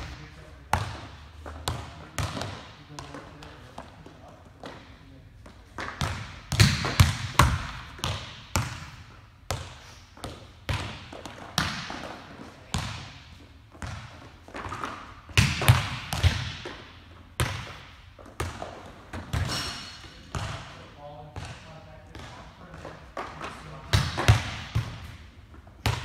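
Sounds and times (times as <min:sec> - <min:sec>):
volleyballs smacking in gym: 0:00.0 - 0:26.0.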